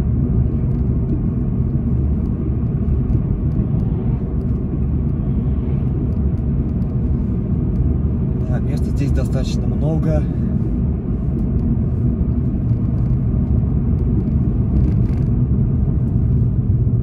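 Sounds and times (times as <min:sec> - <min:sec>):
car engine rumble: 0:00.0 - 0:17.0
tyre road noise: 0:00.0 - 0:17.0.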